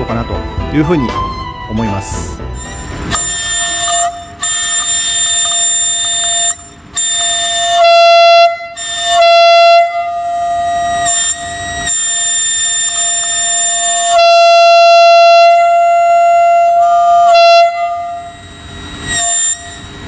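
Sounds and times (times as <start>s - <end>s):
locomotive horn blasts: 2.5s - 20.0s.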